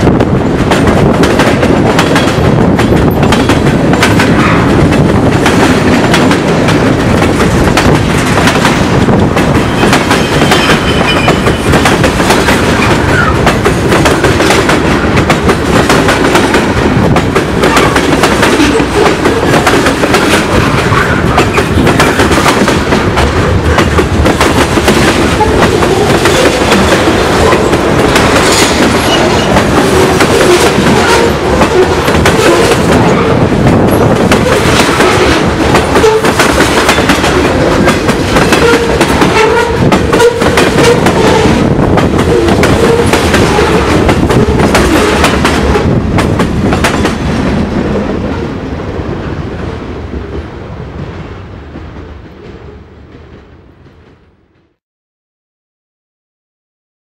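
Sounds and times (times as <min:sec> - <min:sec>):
freight train wheels rumbling: 0:00.0 - 0:54.8.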